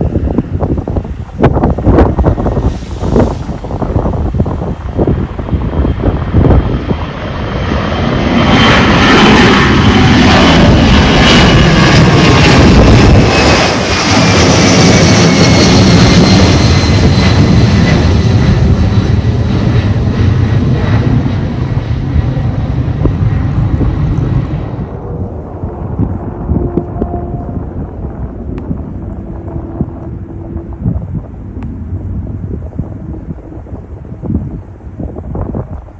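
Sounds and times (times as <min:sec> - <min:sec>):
jet engines at takeoff: 0:00.0 - 0:35.9.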